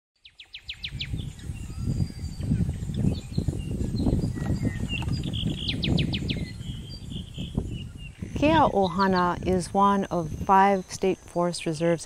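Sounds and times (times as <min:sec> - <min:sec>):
birds trilling and chirping: 0:00.2 - 0:12.0.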